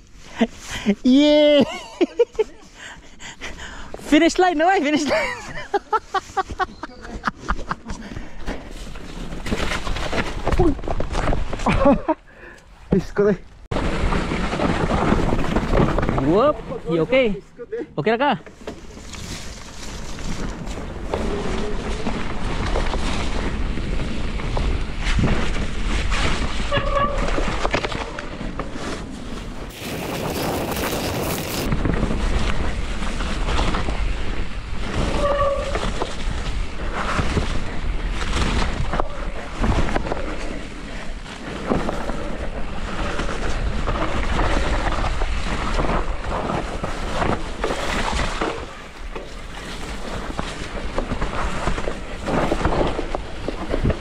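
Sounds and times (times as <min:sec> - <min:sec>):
bike tyres rumbling: 0:04.9 - 0:12.1, 0:13.7 - 0:17.5, 0:18.4 - 0:54.0
bike clattering over rough ground: 0:07.6 - 0:12.1, 0:13.7 - 0:17.0, 0:18.4 - 0:54.0.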